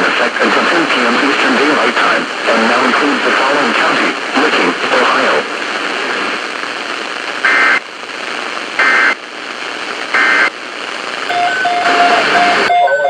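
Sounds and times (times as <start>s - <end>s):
radio static: 0.0s - 13.0s.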